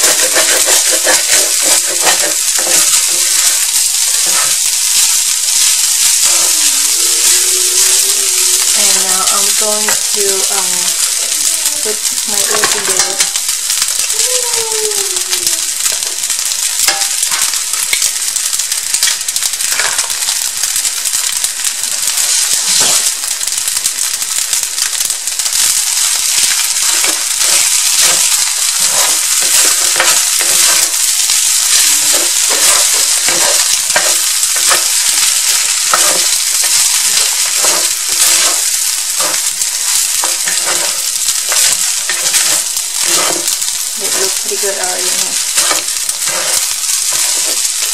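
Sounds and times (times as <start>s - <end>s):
spatula scraping skillet: 0.0s - 14.2s, 15.2s - 18.1s, 19.0s - 21.3s, 21.9s - 23.4s, 24.4s - 47.9s
rice and egg sizzling in skillet: 0.0s - 47.9s.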